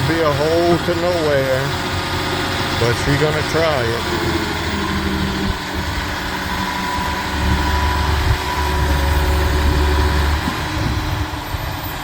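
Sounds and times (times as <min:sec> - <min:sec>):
excavator diesel engine drone: 0:00.0 - 0:12.0.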